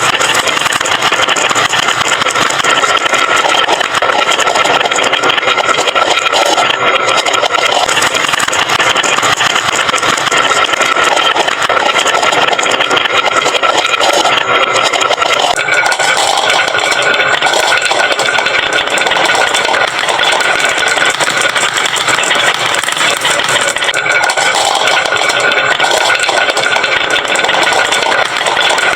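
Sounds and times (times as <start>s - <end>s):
marbles rolling down wooden tracks: 0.0s - 28.9s.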